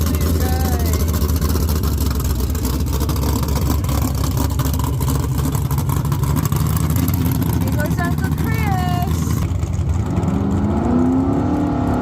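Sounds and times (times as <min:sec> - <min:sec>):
racing car engine idling: 0:00.0 - 0:11.1.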